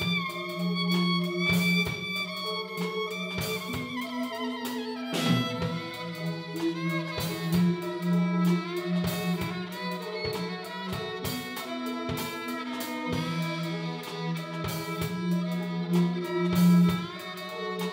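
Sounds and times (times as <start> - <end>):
drum kit hits: 0.0 - 17.9
violin melody: 0.0 - 17.9.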